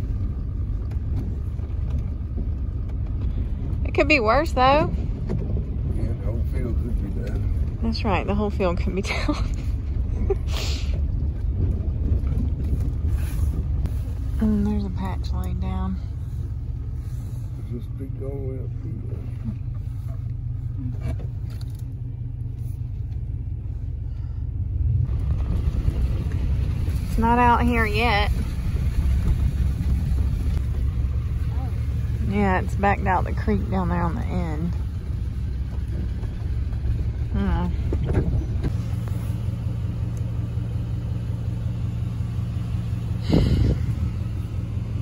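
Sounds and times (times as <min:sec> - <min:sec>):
truck engine and road rumble: 0:00.0 - 0:45.0.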